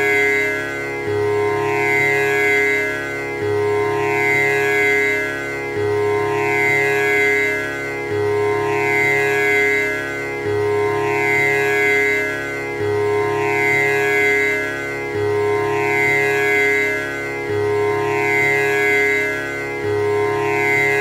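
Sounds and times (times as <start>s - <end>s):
tanpura drone: 0.0s - 21.0s.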